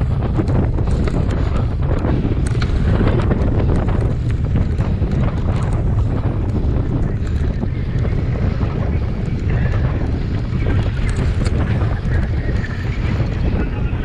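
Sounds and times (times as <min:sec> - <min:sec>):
bike rattling: 0:00.0 - 0:14.0
wind buffeting microphone: 0:00.0 - 0:14.0.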